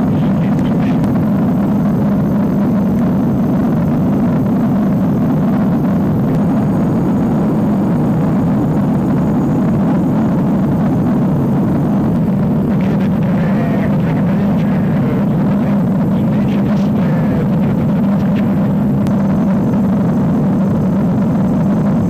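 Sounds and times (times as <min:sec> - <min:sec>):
helicopter rotor and engine noise: 0:00.0 - 0:22.0.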